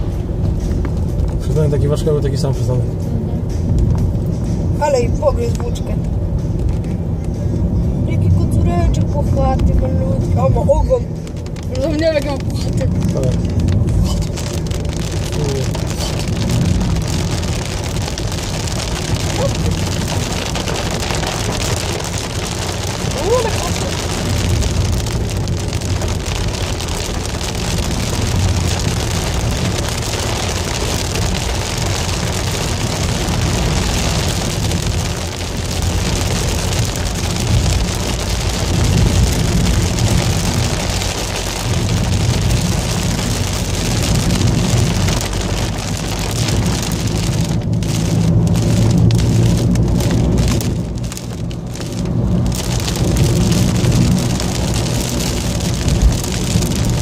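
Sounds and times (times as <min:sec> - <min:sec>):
rain and wet tyres hiss: 0:00.0 - 0:57.0
road and engine rumble: 0:00.0 - 0:57.0.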